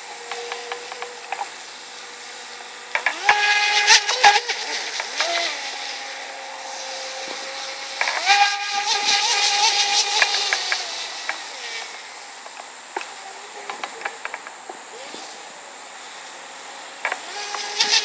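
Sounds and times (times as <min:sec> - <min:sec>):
electric boat motor whine: 0:00.0 - 0:18.0
water spray hiss: 0:00.0 - 0:18.0.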